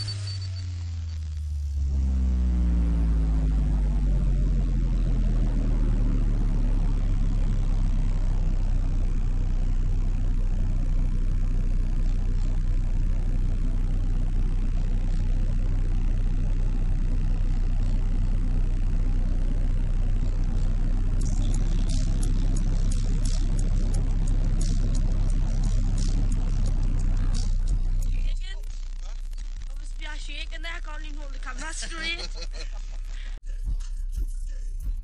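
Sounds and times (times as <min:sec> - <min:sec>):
deep subwoofer bass tone: 0:00.0 - 0:35.0.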